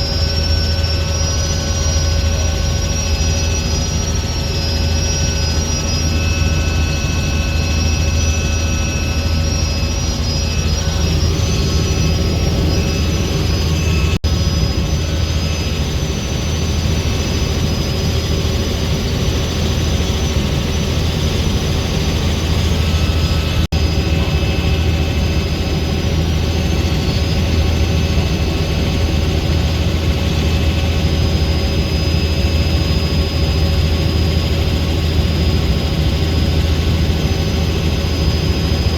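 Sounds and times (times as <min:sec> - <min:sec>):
helicopter rotor and engine drone: 0:00.0 - 0:38.9
high engine whine: 0:00.0 - 0:38.9.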